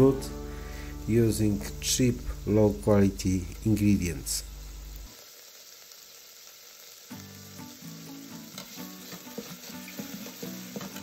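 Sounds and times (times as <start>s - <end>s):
beef sizzling in hot oil: 0.0s - 11.0s.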